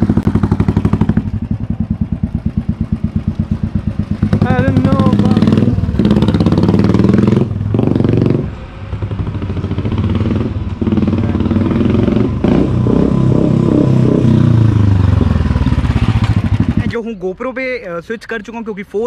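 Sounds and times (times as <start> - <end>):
motorcycle engine fly-by: 0.0 - 16.9.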